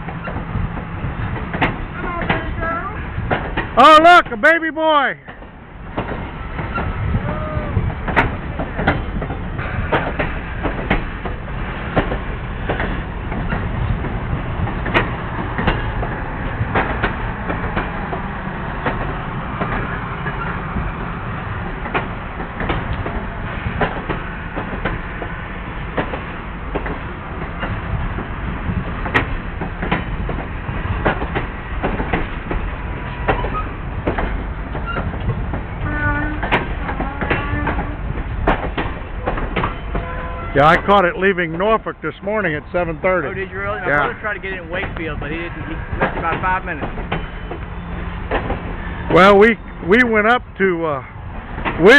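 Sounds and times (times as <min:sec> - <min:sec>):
wheels clanking and clicking: 0:00.0 - 0:04.5, 0:05.2 - 0:51.9
train cars rumbling past: 0:00.0 - 0:51.9.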